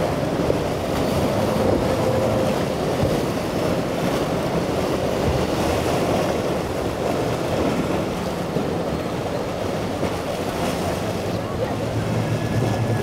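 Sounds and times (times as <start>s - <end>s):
hull pounding through waves: 0.0s - 13.0s
outboard motors running: 0.0s - 13.0s
surf: 0.0s - 13.0s
wind buffeting microphone: 0.0s - 13.0s.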